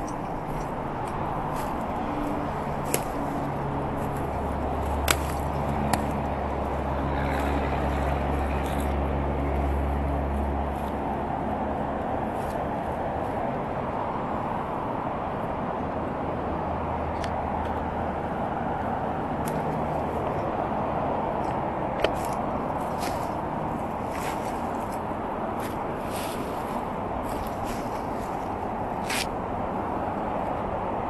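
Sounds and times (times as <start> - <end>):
outdoor background rumble: 0.0 - 31.0.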